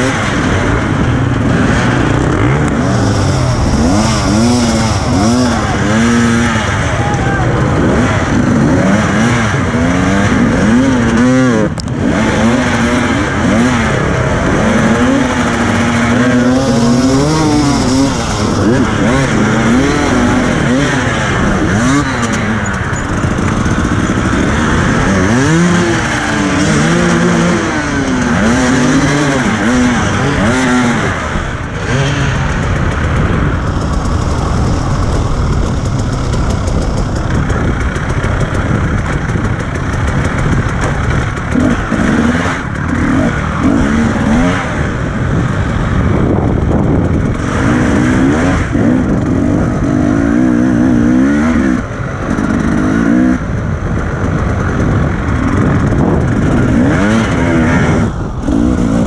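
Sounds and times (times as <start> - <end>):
motorcycle engine revving: 0.0 - 59.0
steady rush of noise: 0.0 - 59.0.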